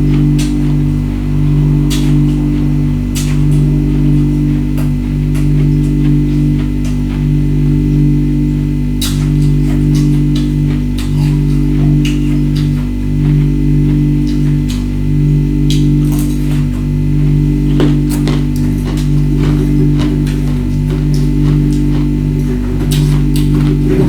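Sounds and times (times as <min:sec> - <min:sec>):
background music with low bass: 0:00.0 - 0:24.0
ice being chewed: 0:00.0 - 0:24.0.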